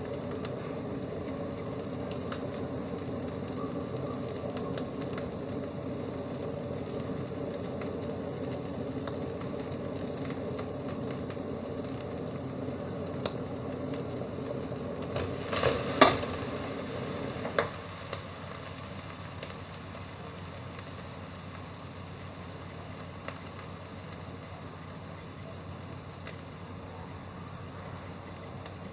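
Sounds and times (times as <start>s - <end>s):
food sizzling in a wok: 0.0s - 28.9s.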